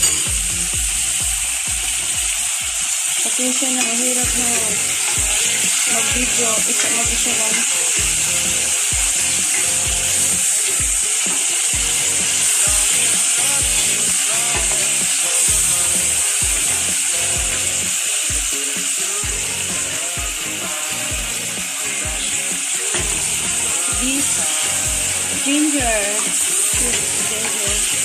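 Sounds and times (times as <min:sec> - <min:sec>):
background music with steady beat: 0:00.0 - 0:28.0
onions sizzling in saucepan: 0:00.0 - 0:28.0.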